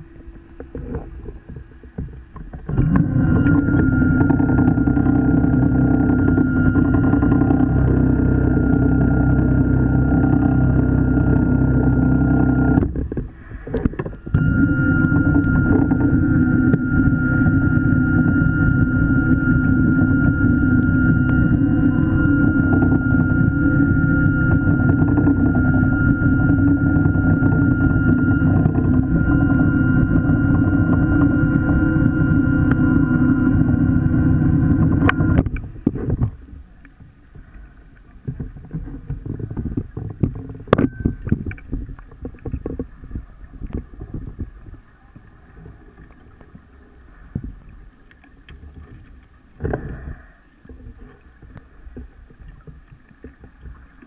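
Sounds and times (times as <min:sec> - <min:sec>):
faint irregular clicks and crackles: 0:00.0 - 0:54.0
underwater scooter motor whining: 0:00.0 - 0:54.0.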